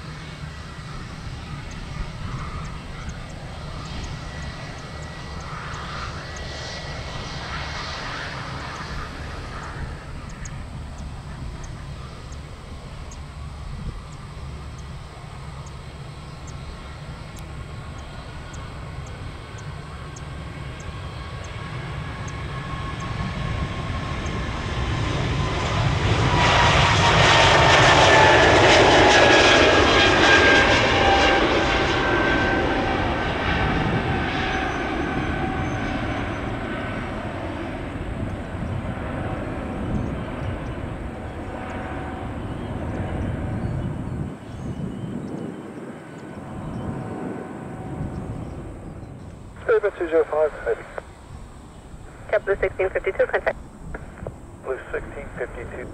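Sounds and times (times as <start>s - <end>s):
jet airliner passing: 0.0s - 55.9s.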